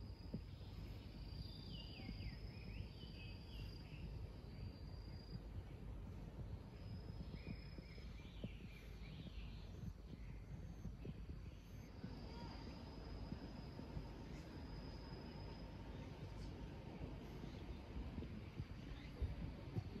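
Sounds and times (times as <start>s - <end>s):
insects buzzing: 0.0s - 20.0s
low rumble: 0.1s - 20.0s.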